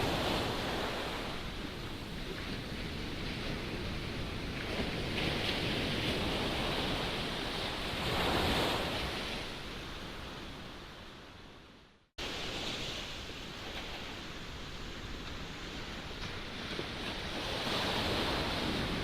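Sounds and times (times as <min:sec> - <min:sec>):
ocean surf breaking: 0:00.0 - 0:10.6, 0:12.2 - 0:19.0
wind blowing across microphone: 0:00.0 - 0:19.0.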